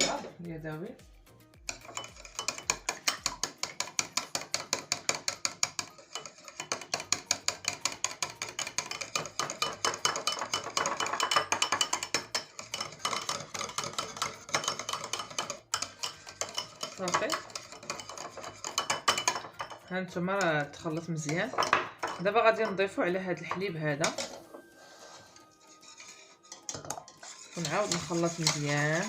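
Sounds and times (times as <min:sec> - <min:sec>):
whisk clicking against bowl: 0:01.7 - 0:24.4, 0:25.8 - 0:29.0.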